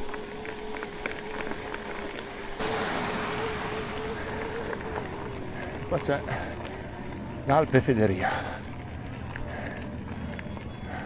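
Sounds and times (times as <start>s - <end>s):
electric bike motor whining: 0.0s - 11.0s.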